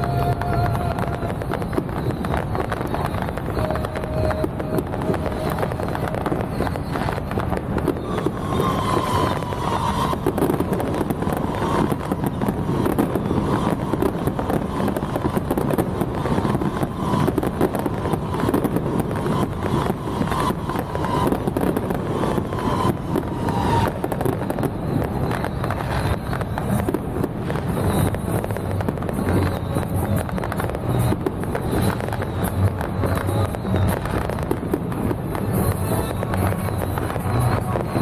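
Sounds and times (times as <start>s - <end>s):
firecrackers crackling: 0.0s - 38.0s.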